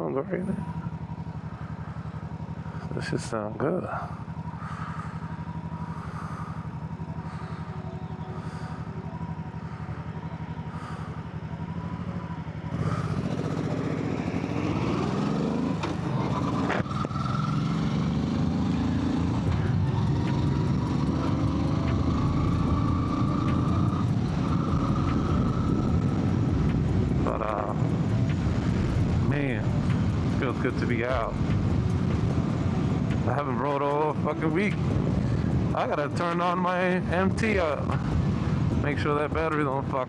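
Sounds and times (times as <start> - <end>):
motorcycle engine pulling away: 0.6 - 40.0.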